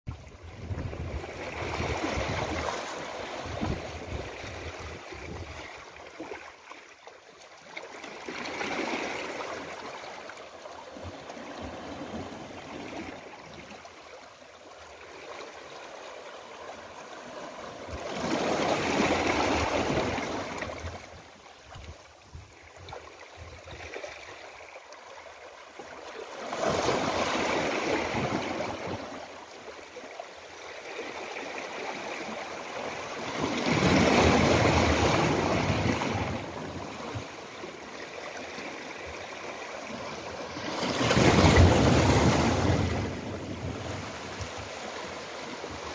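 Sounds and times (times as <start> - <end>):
waves washing among boulders: 0.5 - 6.6, 7.7 - 13.9, 14.8 - 24.6, 26.0 - 45.9.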